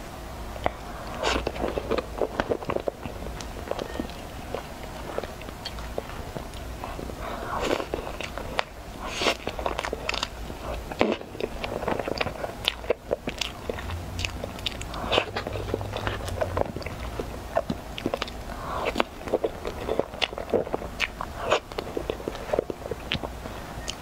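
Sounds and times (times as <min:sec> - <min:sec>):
wet chewing and smacking: 0:00.6 - 0:24.0.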